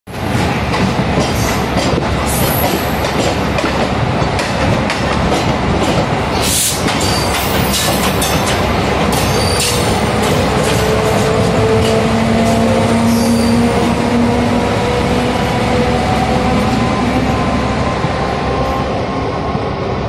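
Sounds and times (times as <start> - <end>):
train rumble and rush: 0.1 - 20.0.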